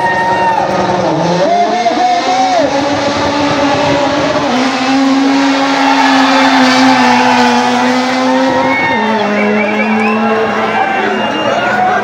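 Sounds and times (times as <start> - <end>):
car engine at steady revs: 0.6 - 10.8.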